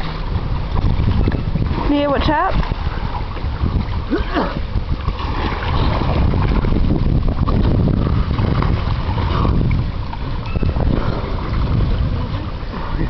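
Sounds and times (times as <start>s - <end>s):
water splashing: 0.0s - 13.0s
wind buffeting microphone: 0.0s - 13.0s.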